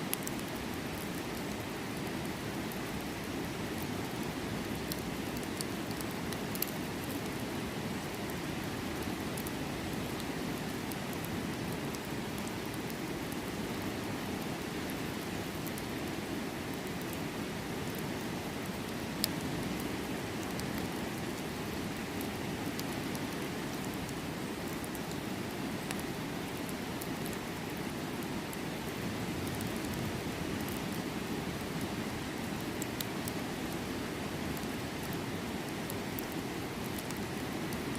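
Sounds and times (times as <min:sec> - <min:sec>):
campfire crackling: 0:00.0 - 0:37.9.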